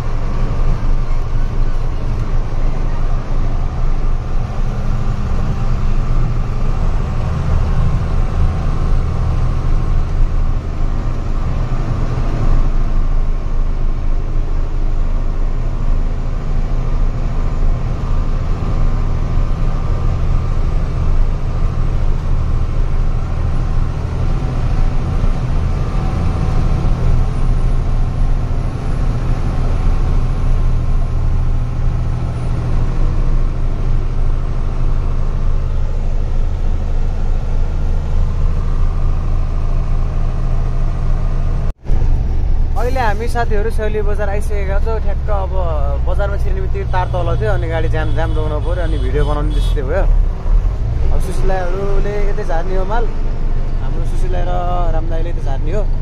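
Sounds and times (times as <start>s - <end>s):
truck engine under load: 0.0s - 56.0s.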